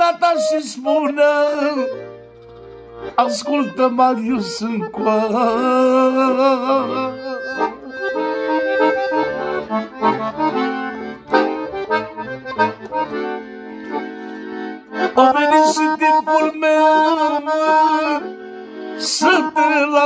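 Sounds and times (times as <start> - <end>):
piano accordion melody: 0.0 - 20.0.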